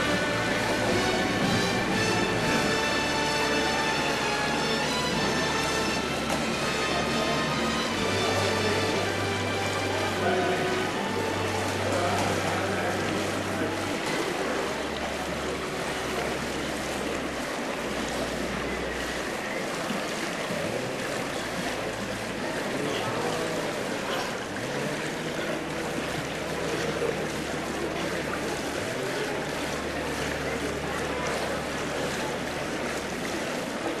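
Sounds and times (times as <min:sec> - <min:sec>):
distant voices: 0:00.0 - 0:34.0
faint background music: 0:00.0 - 0:34.0
water sloshing and splashing: 0:00.0 - 0:34.0.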